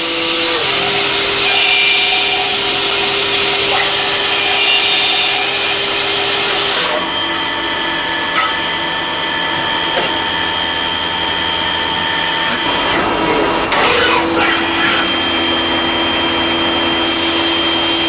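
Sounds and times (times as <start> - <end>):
lathe machining with high whine: 0.0 - 18.0.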